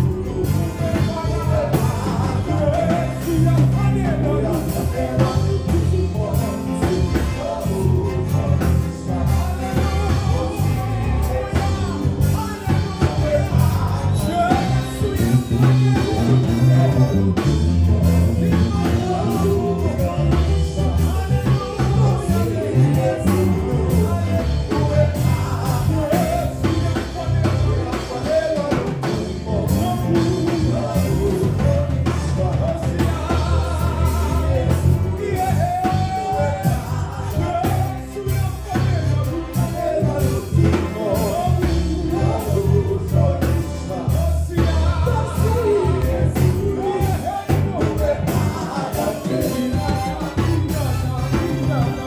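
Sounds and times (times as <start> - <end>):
band with steady bass line: 0.0 - 52.0
voices singing: 0.0 - 52.0.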